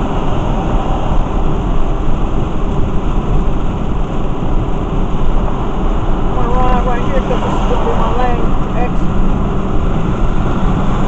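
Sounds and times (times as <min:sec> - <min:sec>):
rain and spray on car: 0:00.0 - 0:11.0
tyres on wet pavement: 0:00.0 - 0:11.0.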